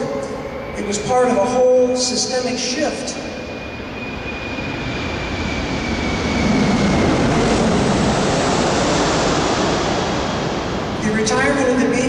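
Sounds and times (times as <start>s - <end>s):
aircraft passing overhead: 0.0s - 12.0s.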